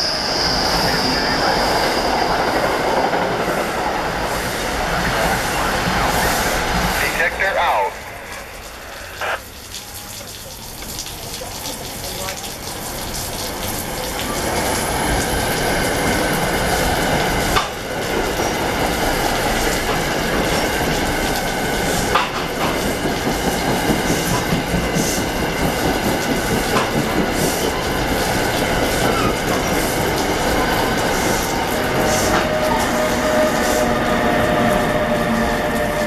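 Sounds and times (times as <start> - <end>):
wheels rumbling on rail: 0.0 - 9.4, 11.6 - 36.0.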